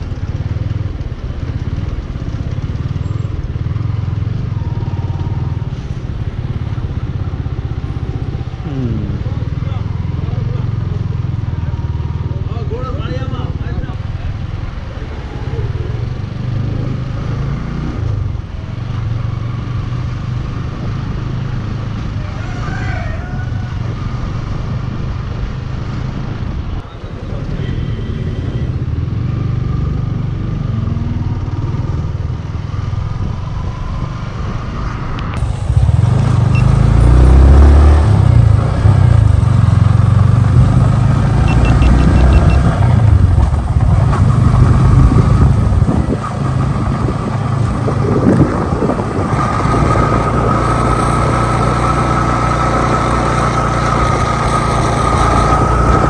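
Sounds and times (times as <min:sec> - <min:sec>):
motorcycle engine running: 0:00.0 - 0:17.4, 0:27.2 - 0:56.0.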